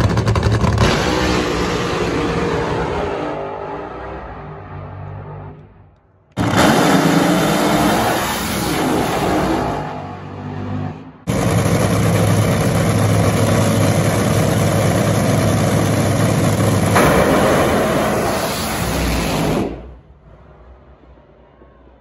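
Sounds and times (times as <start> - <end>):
drag car engines roaring: 0.0 - 22.0.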